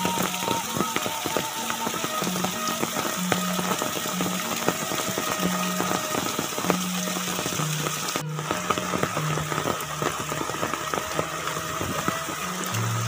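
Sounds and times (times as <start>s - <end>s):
rain on concrete path: 0.0s - 13.0s.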